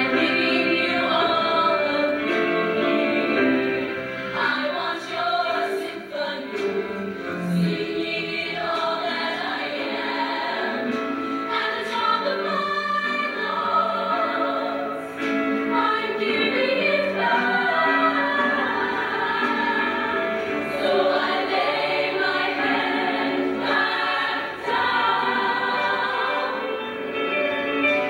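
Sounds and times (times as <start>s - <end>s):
female choir singing in harmony: 0.0s - 28.0s.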